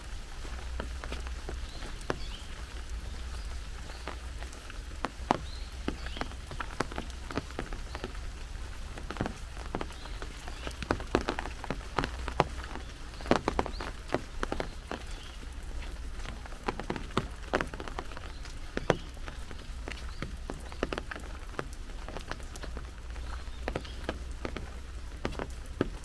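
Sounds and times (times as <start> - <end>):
rain falling: 0.0 - 26.0
raindrops tapping on umbrella: 0.0 - 26.0.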